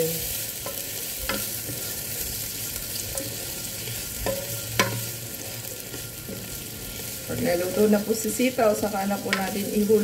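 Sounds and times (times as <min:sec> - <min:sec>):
onion and tomato sizzling: 0:00.0 - 0:10.0
spatula stirring: 0:00.2 - 0:08.3.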